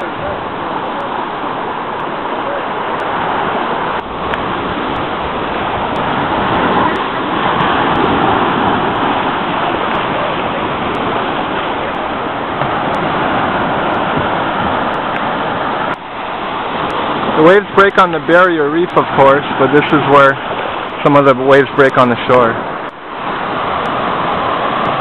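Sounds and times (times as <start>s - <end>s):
waves washing over sand: 0.0s - 25.0s.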